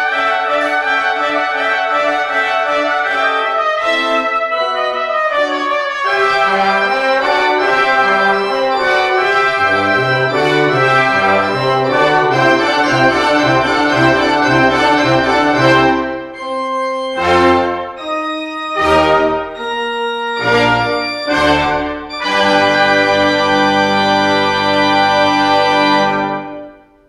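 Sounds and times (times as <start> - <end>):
brass ensemble playing: 0.0 - 27.0
pipe organ chords: 0.0 - 27.0.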